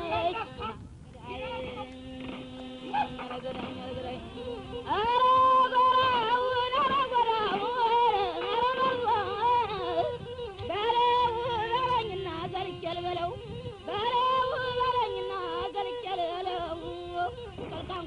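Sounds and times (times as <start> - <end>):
woman singing slow melody: 0.0 - 18.0.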